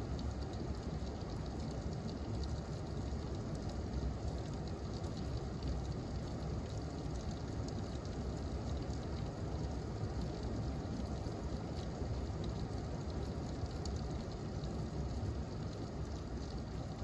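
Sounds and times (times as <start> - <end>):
faint raindrop ticks: 0.0 - 17.0
steady rain hiss: 0.0 - 17.0.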